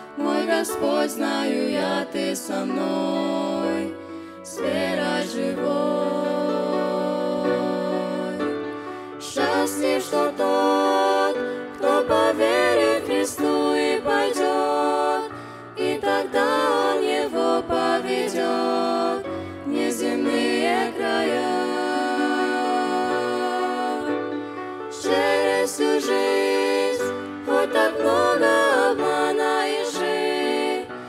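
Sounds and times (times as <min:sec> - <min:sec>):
vocal trio singing in harmony: 0:00.0 - 0:31.0.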